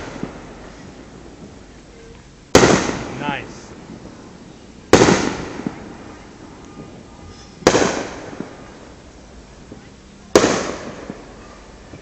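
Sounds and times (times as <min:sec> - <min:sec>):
firework shells booming: 0:00.0 - 0:01.6, 0:02.5 - 0:04.3, 0:04.9 - 0:08.9, 0:09.6 - 0:12.0.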